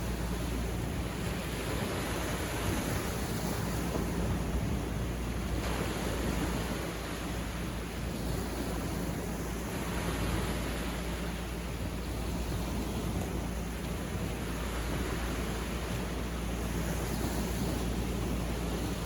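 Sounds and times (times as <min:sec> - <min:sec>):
waves washing on a beach: 0:00.0 - 0:19.0.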